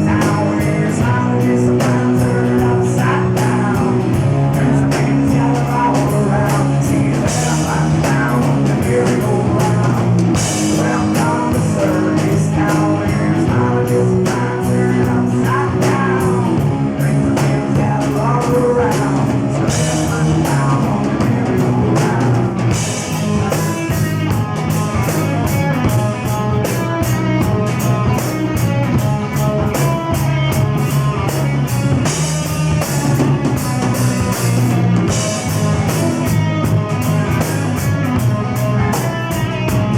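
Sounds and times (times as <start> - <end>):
drum kit beat: 0.0 - 39.9
rock band playing: 0.0 - 39.9.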